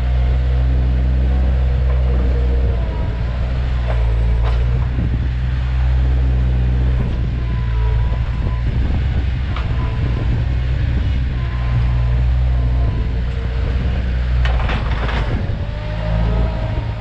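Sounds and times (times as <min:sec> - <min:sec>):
diesel engine with whine: 0:00.0 - 0:17.0.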